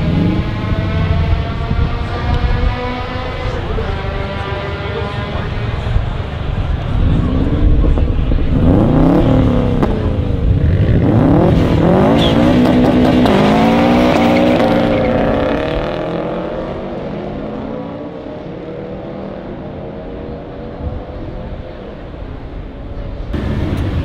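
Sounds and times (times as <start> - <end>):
car engines revving and accelerating: 0.0 - 24.0.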